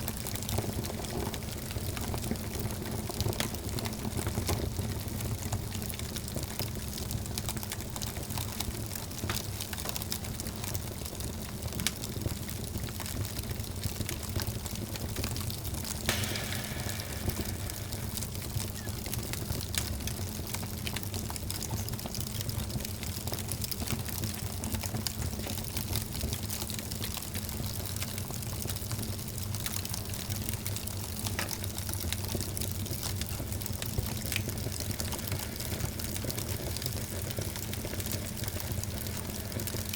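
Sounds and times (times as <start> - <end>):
wood fire crackling: 0.1 - 39.9.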